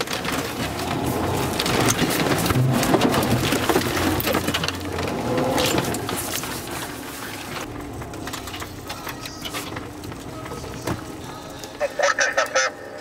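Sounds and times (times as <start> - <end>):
branches scraping and snapping: 0.0 - 12.4
vehicle engine running: 0.0 - 13.0.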